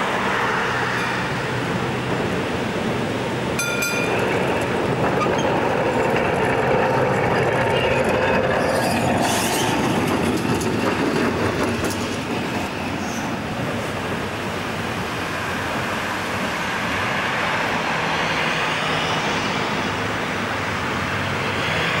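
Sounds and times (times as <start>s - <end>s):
tram wheels rolling on track: 0.0s - 22.0s.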